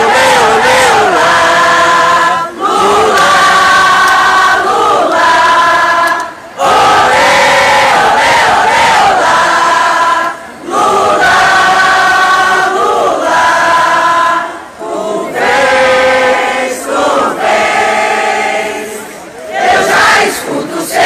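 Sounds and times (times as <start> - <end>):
crowd singing as a choir: 0.0 - 21.0.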